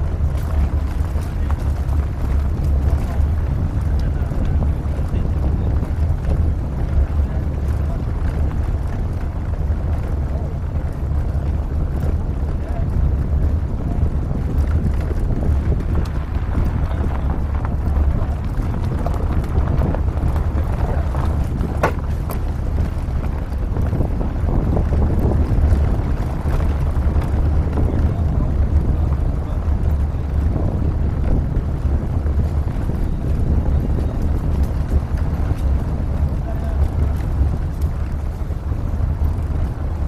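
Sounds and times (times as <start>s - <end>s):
truck driving on dirt road: 0.0s - 40.0s
wind buffeting microphone: 0.0s - 40.0s.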